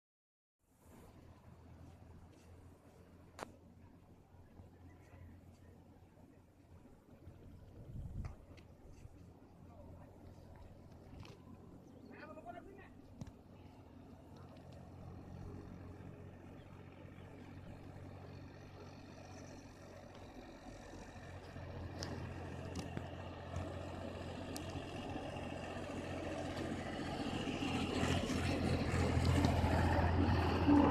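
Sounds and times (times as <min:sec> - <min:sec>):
vehicle engine humming: 0:00.7 - 0:30.9.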